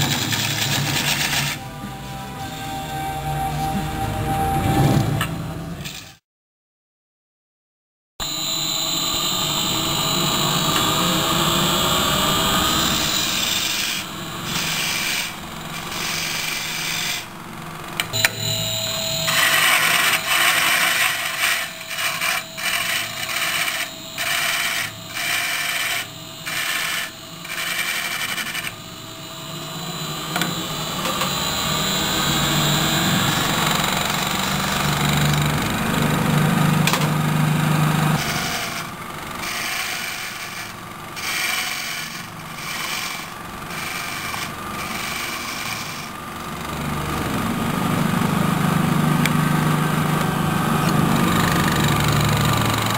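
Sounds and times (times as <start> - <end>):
turning tool cutting wood: 0.0 - 1.8, 8.2 - 52.9
wood lathe humming: 0.0 - 5.1, 8.2 - 52.9.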